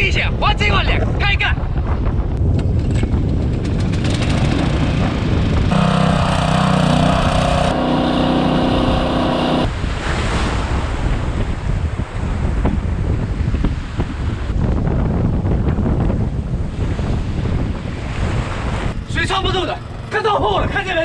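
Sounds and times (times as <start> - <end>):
strong wind buffeting microphone: 0.0 - 6.4, 7.2 - 21.0.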